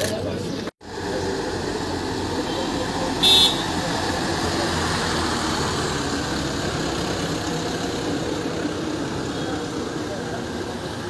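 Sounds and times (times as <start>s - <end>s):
diesel engine of passing van: 0.8s - 11.0s.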